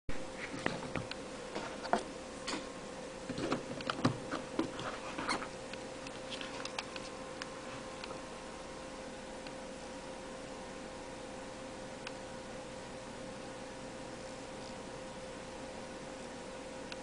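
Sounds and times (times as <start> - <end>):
faint steady hum: 0.1 - 17.0.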